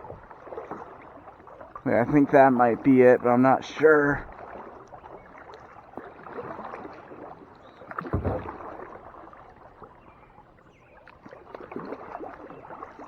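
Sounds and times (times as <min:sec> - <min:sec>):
kayak paddle splashing in water: 0:00.0 - 0:13.0.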